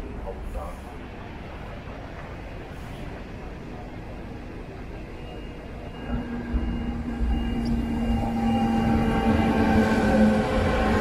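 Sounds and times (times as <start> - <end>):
electric locomotive whine: 0.0 - 11.0
train running gear rumble: 0.0 - 11.0.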